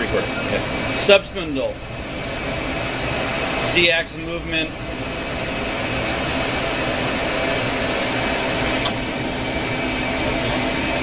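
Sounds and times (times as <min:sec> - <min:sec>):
lathe mechanical whir: 0:00.0 - 0:11.0.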